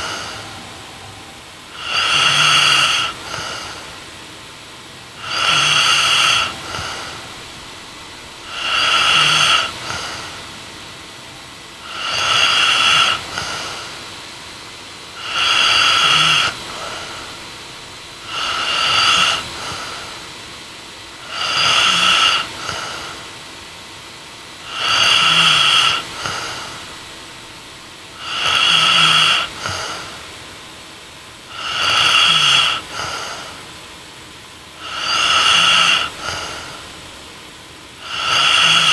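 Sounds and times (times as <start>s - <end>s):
woman snoring: 0.0s - 4.2s, 5.1s - 14.2s, 15.1s - 20.4s, 21.1s - 23.4s, 24.5s - 30.4s, 31.4s - 33.8s, 34.8s - 37.1s, 38.0s - 38.9s.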